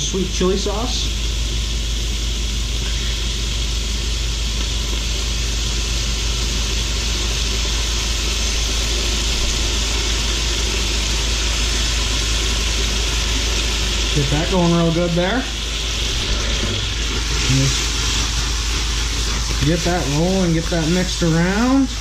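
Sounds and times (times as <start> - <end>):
food sizzling in frying pan: 0.0 - 22.0
low hum: 1.0 - 22.0
sauce pouring: 1.2 - 22.0.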